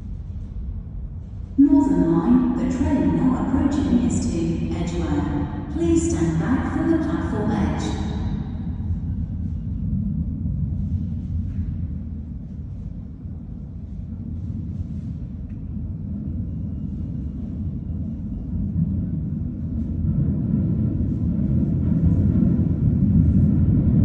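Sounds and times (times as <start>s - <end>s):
tube train rumbling through tunnel: 0.0s - 24.0s.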